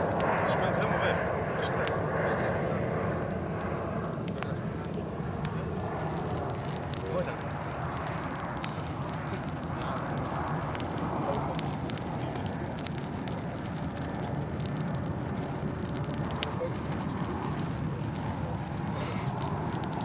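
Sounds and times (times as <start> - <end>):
campfire crackling and popping: 0.0 - 20.0
steady rushing noise: 0.0 - 20.0.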